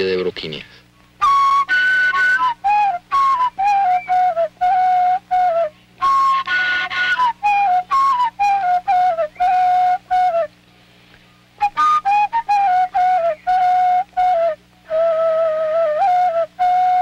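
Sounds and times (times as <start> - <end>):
flute melody: 1.2 - 10.6, 11.6 - 17.0.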